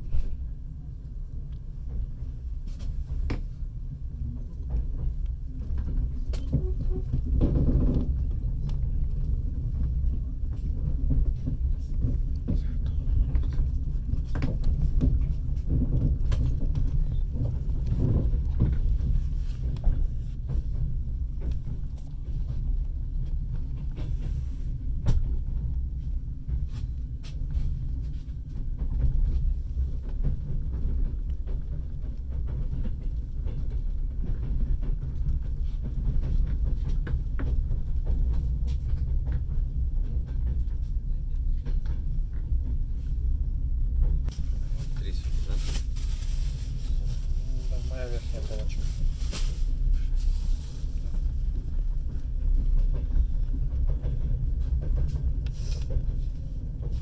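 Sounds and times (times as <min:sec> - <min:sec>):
train running low rumble: 0:00.0 - 0:57.0.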